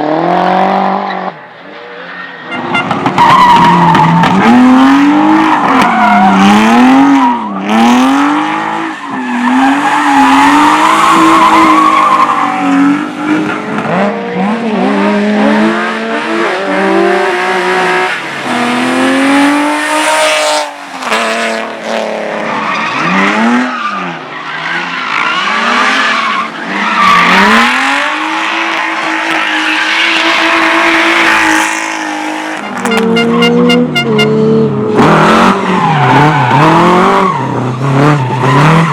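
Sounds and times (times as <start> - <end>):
tires squealing and skidding: 0.8 - 38.9
car engine revving hard: 3.8 - 8.9, 9.5 - 24.1, 27.1 - 38.9.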